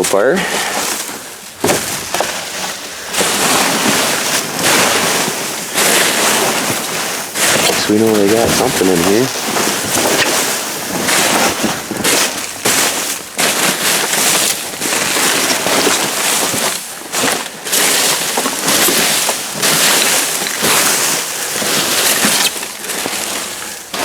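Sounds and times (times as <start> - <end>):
trash rustling and crunching: 0.0 - 24.0.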